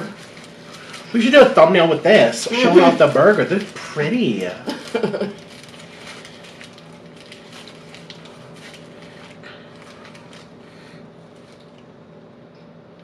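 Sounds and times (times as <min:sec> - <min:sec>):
paper wrappers crackling: 0:00.0 - 0:11.8
people chewing burgers: 0:00.0 - 0:11.9
faint steady hum: 0:00.0 - 0:13.0.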